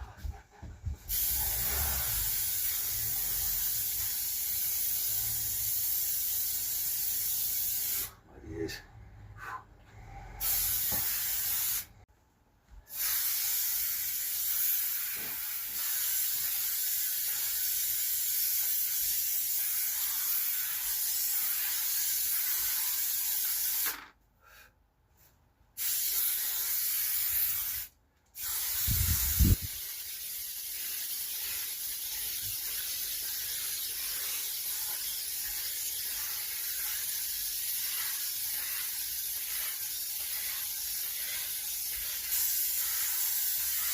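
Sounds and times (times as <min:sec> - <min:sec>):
aerosol can hissing: 0:01.1 - 0:08.2, 0:10.4 - 0:11.9, 0:12.9 - 0:24.0, 0:25.8 - 0:43.9.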